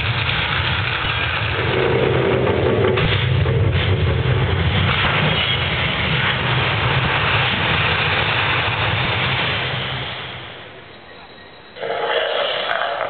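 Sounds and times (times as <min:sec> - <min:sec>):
deep rumbling sound effects: 0:00.0 - 0:10.6.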